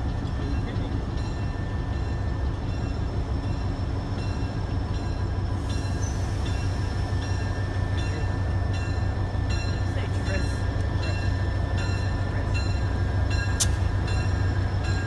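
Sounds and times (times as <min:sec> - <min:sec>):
diesel locomotive rumbling: 0:00.0 - 0:15.0.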